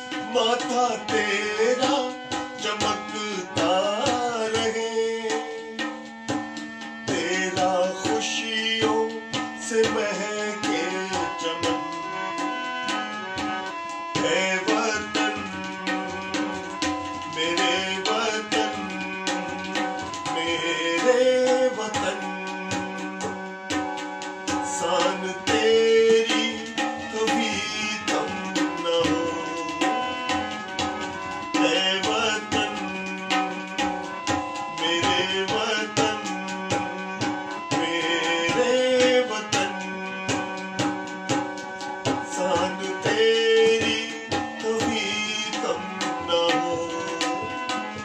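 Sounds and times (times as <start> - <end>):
harmonium chords: 0.0 - 48.0
tabla rhythm: 0.0 - 48.0.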